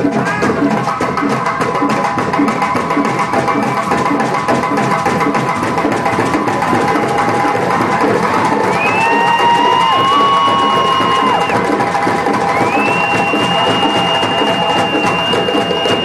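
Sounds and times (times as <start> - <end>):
hand drums playing fast rhythm: 0.0 - 16.0.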